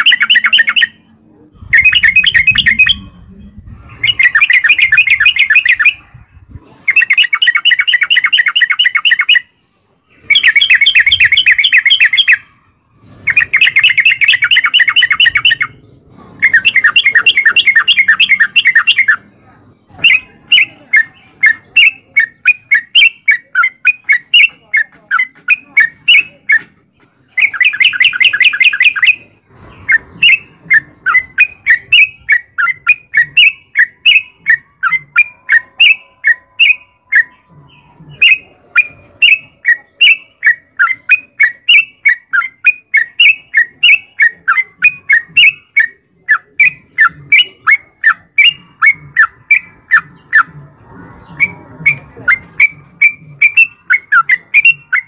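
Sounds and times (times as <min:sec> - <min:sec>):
bird sharp notes: 0:00.0 - 0:06.1, 0:06.8 - 0:55.0
bird rolling chatters: 0:00.0 - 0:09.5, 0:13.0 - 0:55.0.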